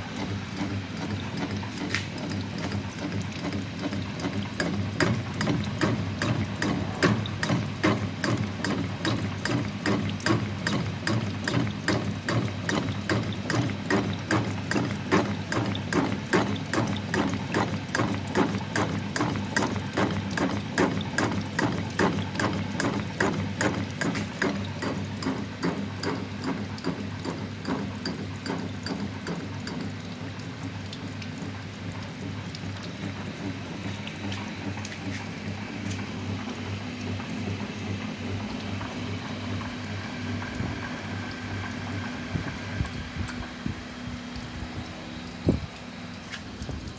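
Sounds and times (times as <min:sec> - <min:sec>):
low machine hum: 0:00.0 - 0:46.9.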